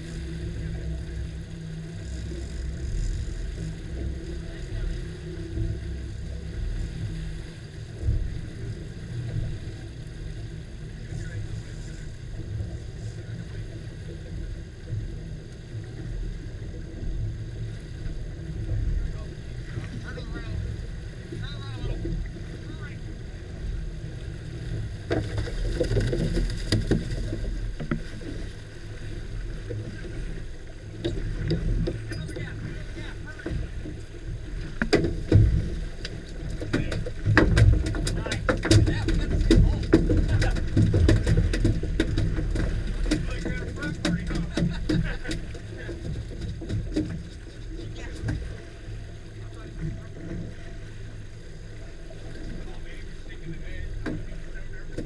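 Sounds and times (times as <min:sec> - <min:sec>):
outboard motors idling: 0:00.0 - 0:55.0.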